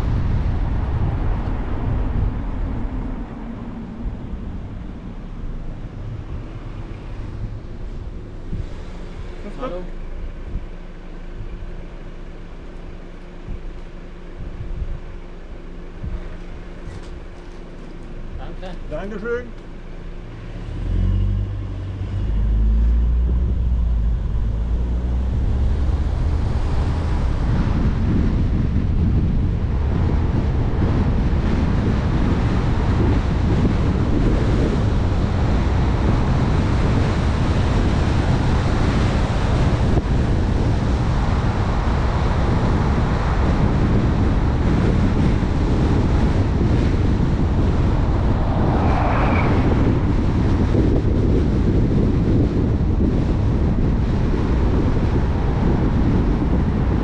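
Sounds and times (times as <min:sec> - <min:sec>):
tyre and wind noise: 0:00.0 - 0:19.4, 0:20.3 - 0:57.0
low road rumble: 0:00.0 - 0:57.0.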